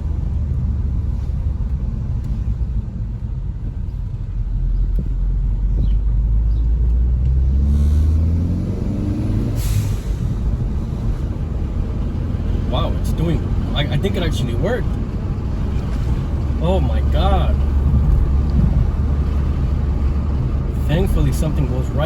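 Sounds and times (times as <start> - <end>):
car engine rumbling and accelerating: 0.0 - 22.0.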